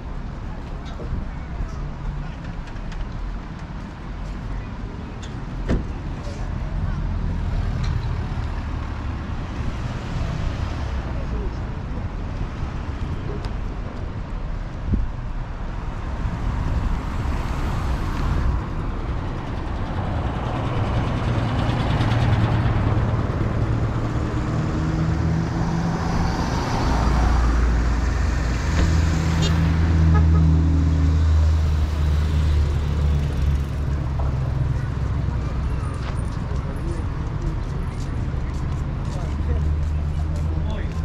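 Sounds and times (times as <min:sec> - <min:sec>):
street traffic: 0:00.0 - 0:41.0
vehicle engine humming: 0:00.0 - 0:41.0.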